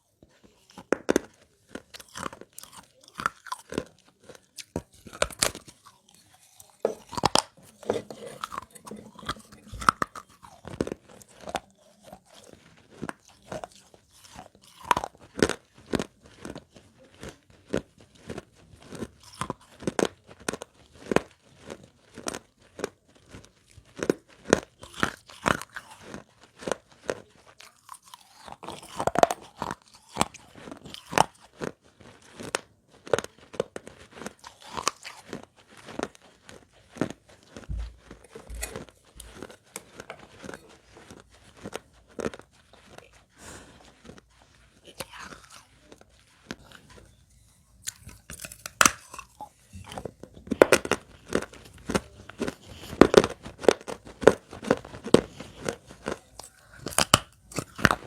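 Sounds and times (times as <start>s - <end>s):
gritty chewing crunches: 0.2s - 58.0s.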